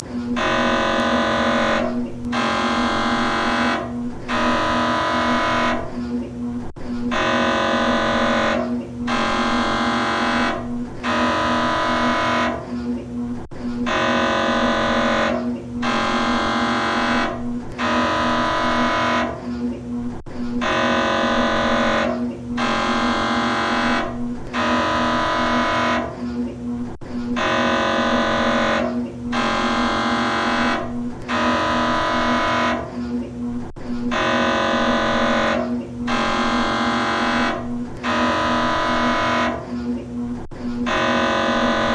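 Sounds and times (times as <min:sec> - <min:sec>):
mri scanner buzzing: 0:00.0 - 0:41.9
steady hum: 0:00.0 - 0:41.9.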